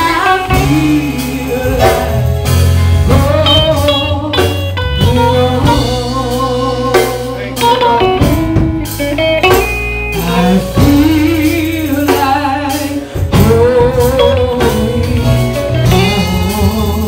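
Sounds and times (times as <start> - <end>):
band playing guitar and drums: 0.0 - 17.0
person singing gospel: 0.0 - 17.0.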